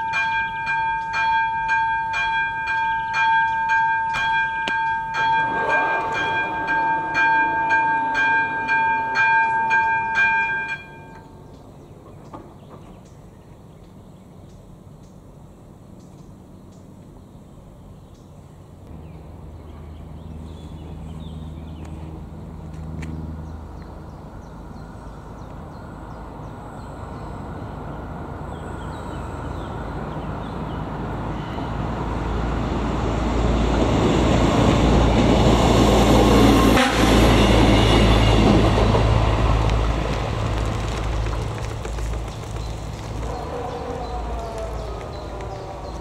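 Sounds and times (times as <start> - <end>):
diesel railcar passing: 0.0 - 46.0.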